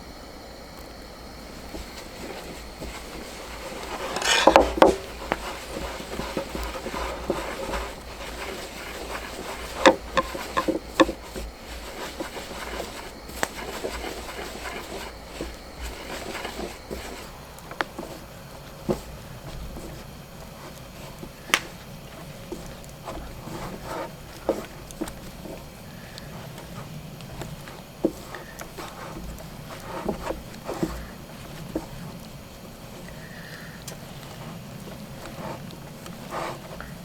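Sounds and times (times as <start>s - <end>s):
steady low hum: 0.0s - 37.0s
rustling with knocks and clatter: 1.5s - 37.0s.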